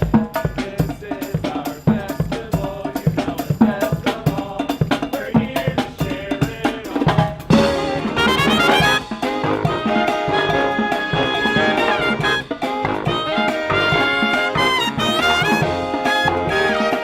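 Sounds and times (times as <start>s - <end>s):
brass marching band playing: 0.0s - 17.0s
steady drum beat: 0.0s - 17.0s.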